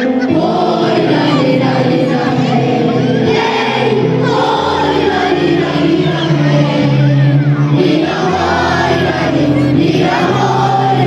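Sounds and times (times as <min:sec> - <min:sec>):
choir singing: 0:00.0 - 0:11.0
instrumental backing track: 0:00.0 - 0:11.0.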